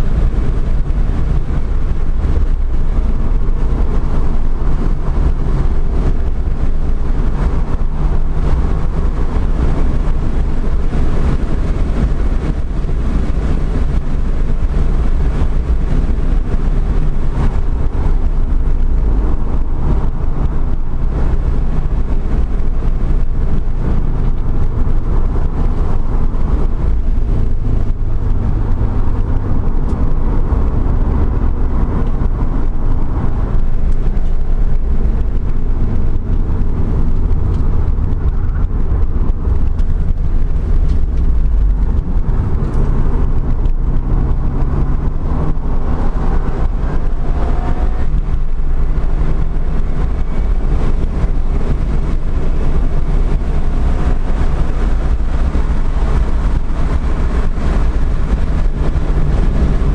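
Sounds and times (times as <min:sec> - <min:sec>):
car engine running under load: 0:00.0 - 0:59.9
road and wind rumble: 0:00.0 - 0:59.9.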